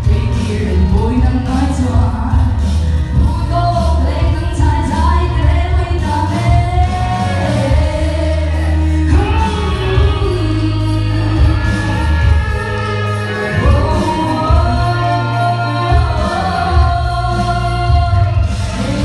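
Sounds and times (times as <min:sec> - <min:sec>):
music with heavy bass: 0:00.0 - 0:19.0
woman singing into a microphone: 0:00.0 - 0:19.0.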